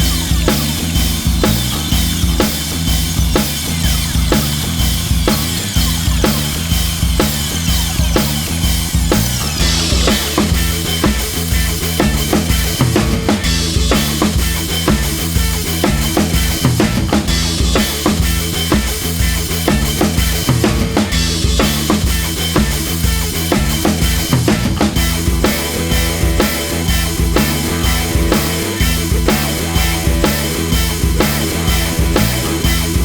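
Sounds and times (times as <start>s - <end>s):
bass line: 0.0s - 33.0s
drum kit beat: 0.0s - 33.0s
rock music: 0.0s - 33.0s.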